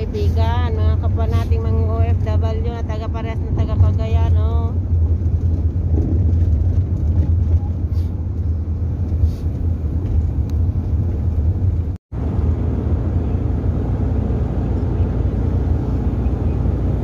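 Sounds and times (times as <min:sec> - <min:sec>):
engine and road noise in cabin: 0:00.0 - 0:17.0.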